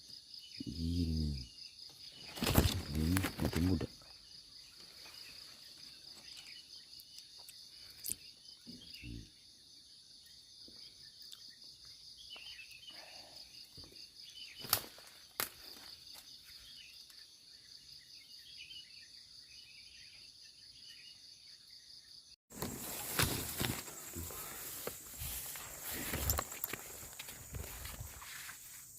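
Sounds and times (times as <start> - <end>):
insects trilling: 0.0 - 28.9.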